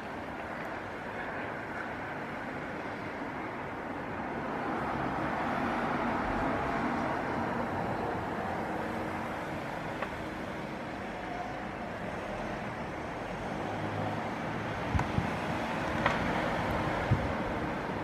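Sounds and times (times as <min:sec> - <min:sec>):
outdoor rumble and hiss: 0:00.0 - 0:18.0.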